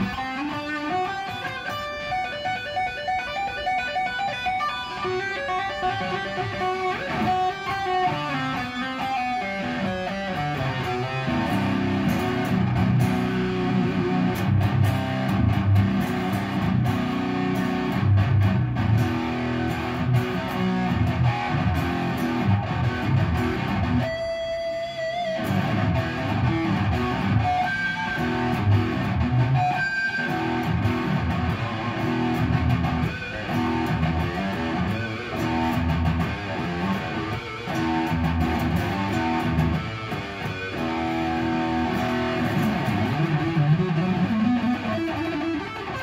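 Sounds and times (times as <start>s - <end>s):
electric guitar playing: 0.0s - 46.0s.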